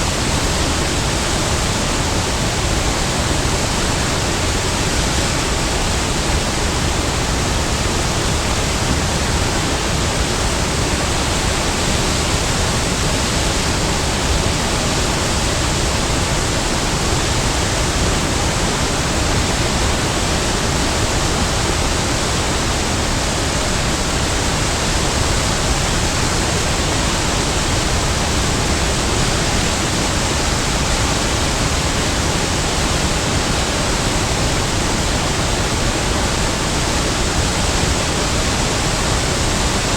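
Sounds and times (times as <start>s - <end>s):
big waterfall rushing: 0.0s - 39.9s.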